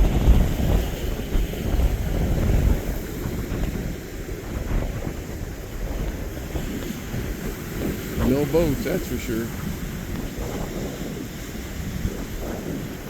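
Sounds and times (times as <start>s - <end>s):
sea surf rushing: 0.0s - 13.0s
wind buffeting microphone: 0.0s - 13.0s.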